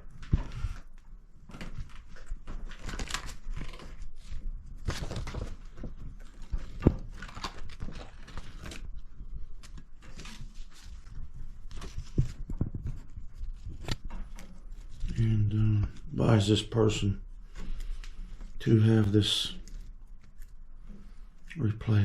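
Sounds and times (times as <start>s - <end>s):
rustling and scraping: 0.0s - 21.6s.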